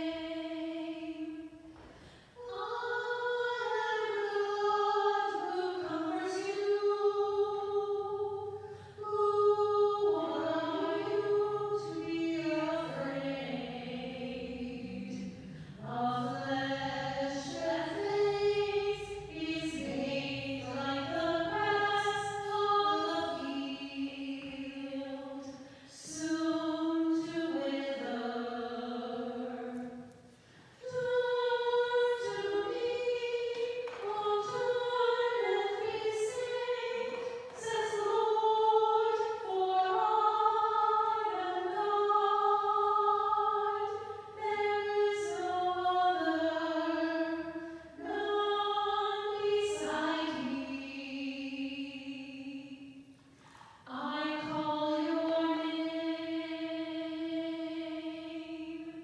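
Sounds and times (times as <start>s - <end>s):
person singing a hymn unaccompanied: 0.0s - 59.0s.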